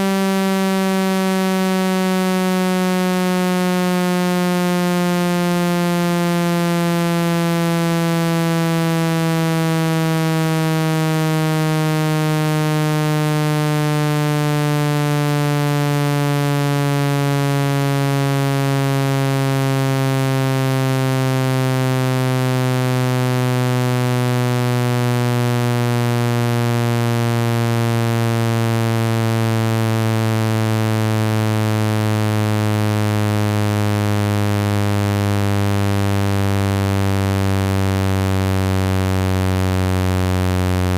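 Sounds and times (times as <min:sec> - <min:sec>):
low buzzy tone gliding down: 0:00.0 - 0:40.9.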